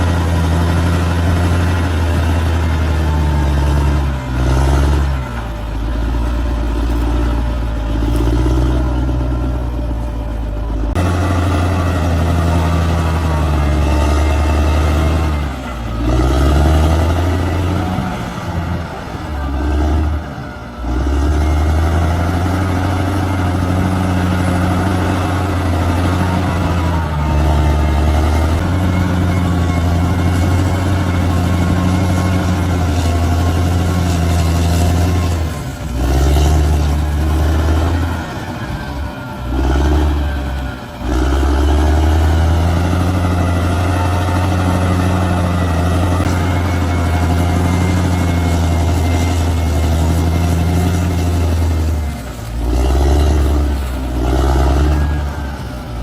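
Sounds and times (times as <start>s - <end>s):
bulldozer engine running: 0.0s - 56.0s.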